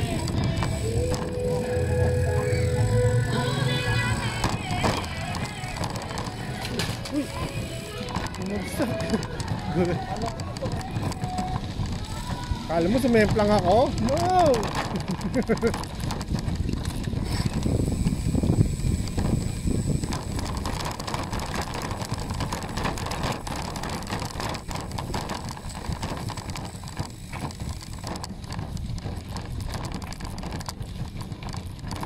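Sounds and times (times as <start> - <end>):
bicycle tyres rolling on gravel: 0.0 - 32.0
bike rattling and knocking: 0.0 - 32.0
low wind rumble: 0.0 - 32.0.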